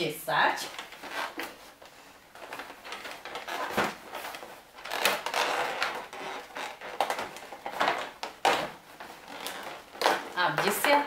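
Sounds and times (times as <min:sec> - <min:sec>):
cardboard scraping and rubbing: 0:01.0 - 0:10.3.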